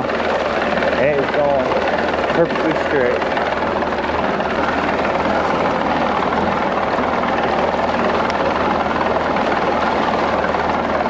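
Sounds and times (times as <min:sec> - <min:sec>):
motorboat engine hum: 0:00.0 - 0:11.0
wind and water rushing: 0:00.0 - 0:11.0.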